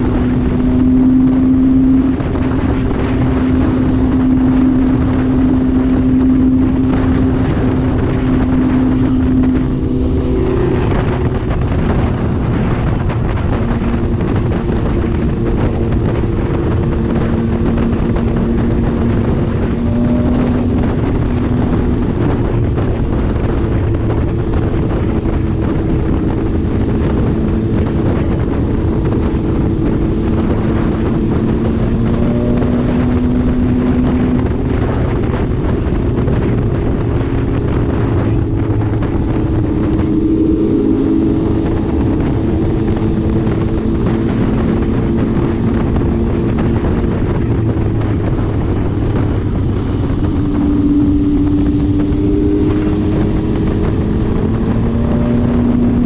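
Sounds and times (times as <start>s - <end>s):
motorcycle engine cruising: 0.0s - 56.0s
wind noise on microphone: 0.0s - 56.0s.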